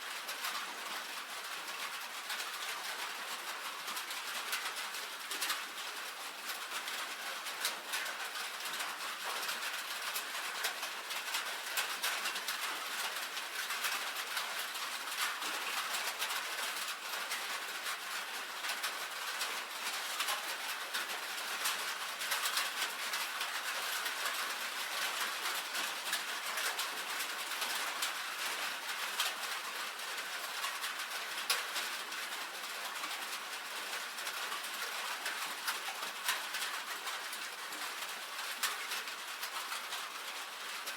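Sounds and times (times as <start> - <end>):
rain on a tin roof: 0.0 - 40.9.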